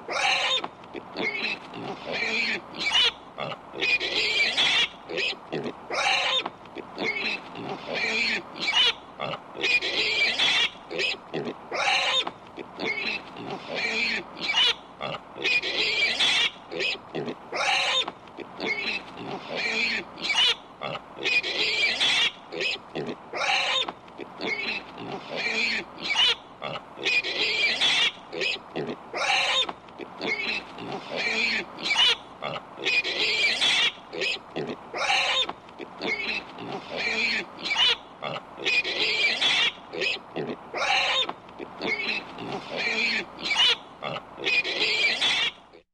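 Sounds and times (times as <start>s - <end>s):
pig grunting and squealing: 0.0s - 45.6s.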